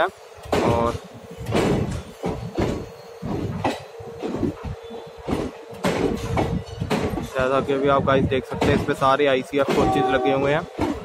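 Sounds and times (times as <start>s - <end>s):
low train rumble: 0.0s - 11.0s
train wheels clattering on rails: 0.4s - 11.0s.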